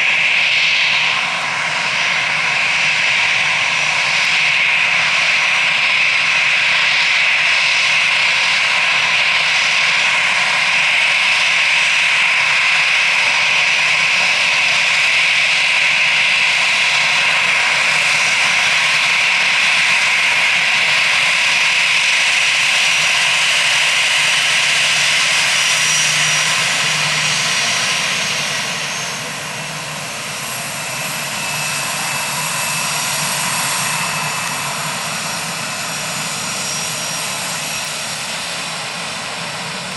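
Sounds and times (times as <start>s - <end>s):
jet engines running with whine: 0.0s - 39.9s.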